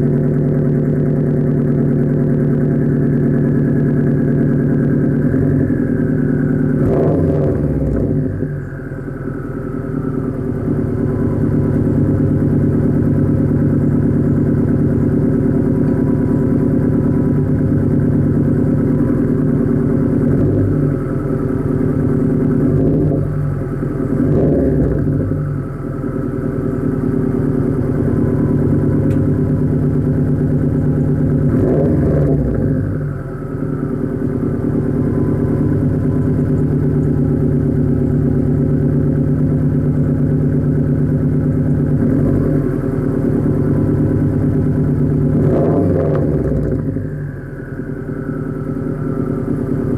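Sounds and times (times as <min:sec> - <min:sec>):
car engine idling with exhaust burble: 0:00.0 - 0:49.9.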